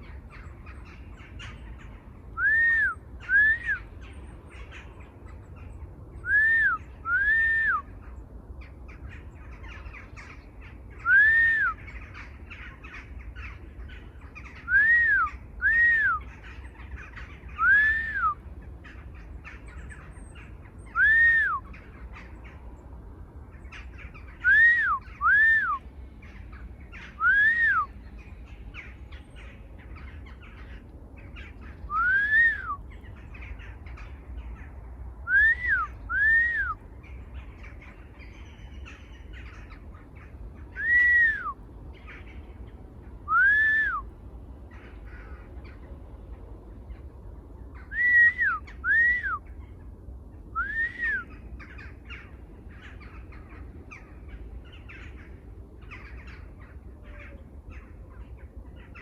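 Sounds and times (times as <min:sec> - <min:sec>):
bird calling: 0:00.0 - 0:22.9, 0:23.5 - 0:44.1, 0:47.7 - 0:59.0
small birds twittering: 0:00.0 - 0:59.0.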